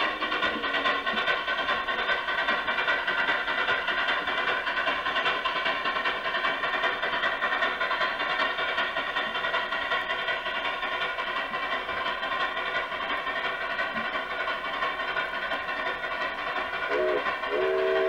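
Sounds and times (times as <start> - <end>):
electronic steam train chuffing: 0.0 - 18.0.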